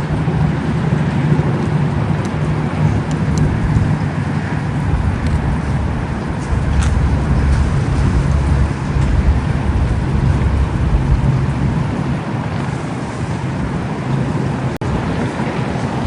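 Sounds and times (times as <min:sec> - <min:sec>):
heavy rain: 0:00.0 - 0:16.0
thunder rumbling: 0:00.0 - 0:16.0
wind: 0:00.0 - 0:16.0.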